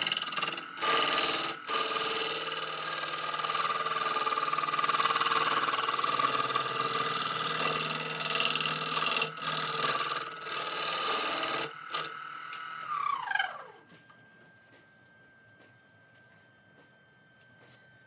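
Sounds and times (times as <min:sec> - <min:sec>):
power tool motor whine: 0:00.0 - 0:15.9.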